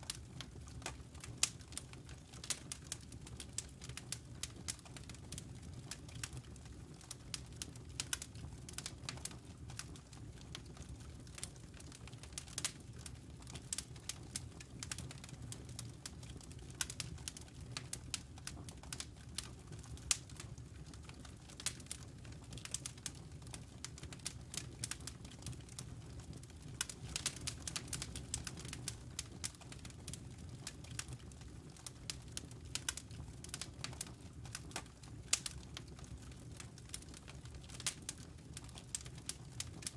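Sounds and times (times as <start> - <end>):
burning wood crackling: 0.1 - 39.9
fire low rumble: 0.1 - 39.9.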